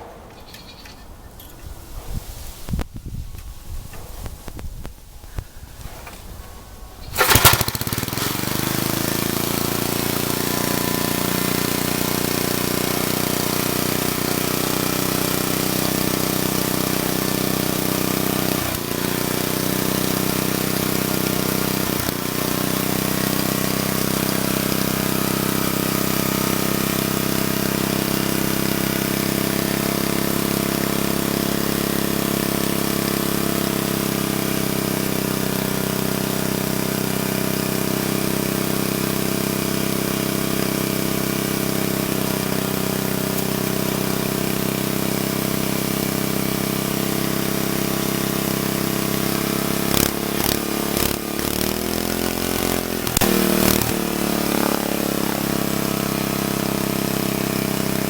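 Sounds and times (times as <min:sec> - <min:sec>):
tiller engine running: 0:06.0 - 0:58.0
engine popping: 0:07.0 - 0:58.0.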